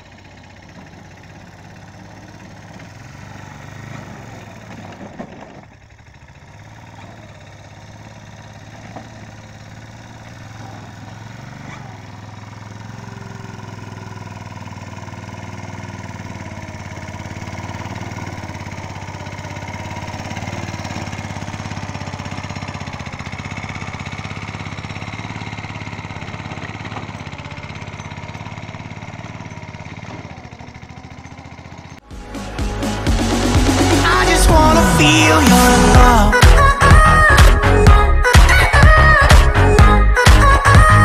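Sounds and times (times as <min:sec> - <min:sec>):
lawn mower engine running: 0:00.0 - 0:41.0.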